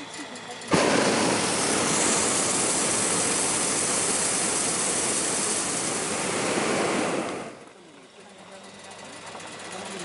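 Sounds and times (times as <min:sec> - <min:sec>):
propane burner roaring: 0:00.0 - 0:10.0.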